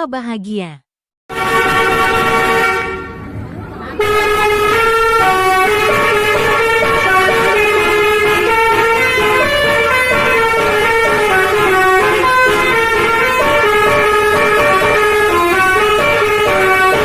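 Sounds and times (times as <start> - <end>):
multi-tone air horn playing tune: 1.3 - 3.2, 4.0 - 17.0.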